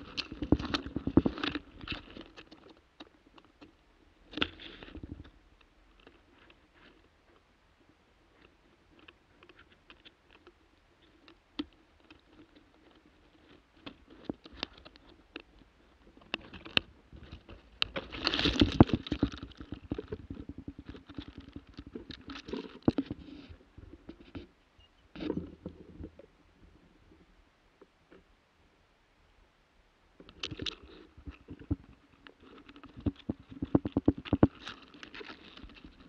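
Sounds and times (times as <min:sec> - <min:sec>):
rustling through moss and grass: 0:00.0 - 0:07.5, 0:08.3 - 0:24.5, 0:30.2 - 0:36.0.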